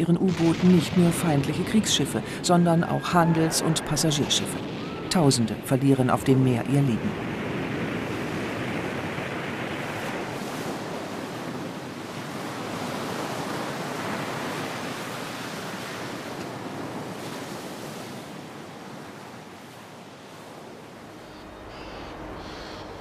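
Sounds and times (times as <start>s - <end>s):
sea waves rushing: 0.0s - 23.0s
wind: 0.0s - 23.0s.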